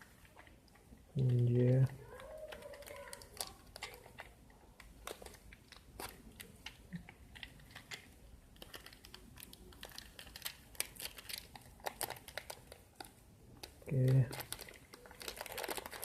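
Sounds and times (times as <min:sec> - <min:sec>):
plastic parts clicking and crinkling: 0:00.0 - 0:16.0.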